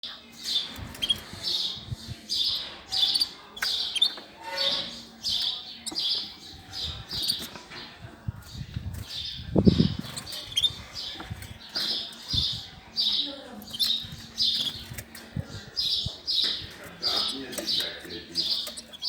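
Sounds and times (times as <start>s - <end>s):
cage birds chirping: 0.0s - 19.0s.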